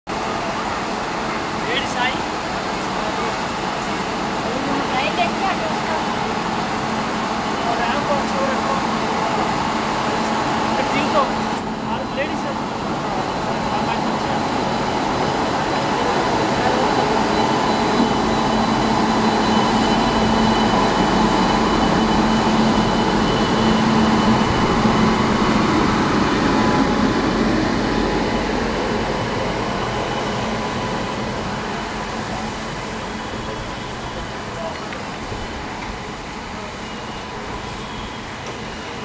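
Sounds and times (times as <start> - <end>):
electric locomotive hum: 0.1 - 39.0.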